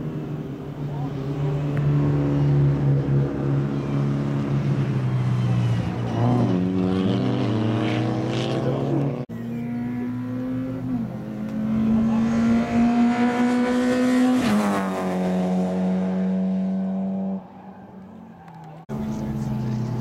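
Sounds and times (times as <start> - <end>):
race car passing at high revs: 0.0 - 20.0.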